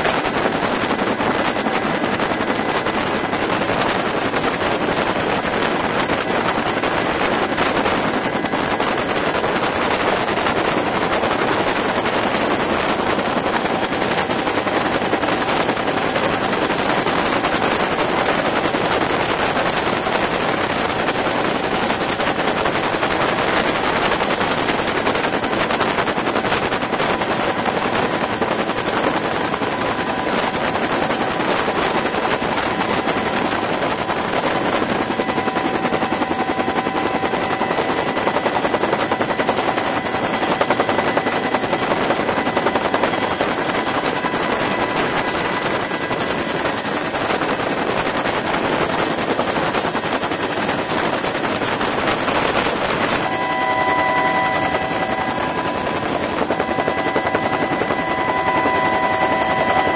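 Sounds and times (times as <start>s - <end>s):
helicopter rotor beat: 0.0s - 59.9s
turbine whine: 0.1s - 59.9s.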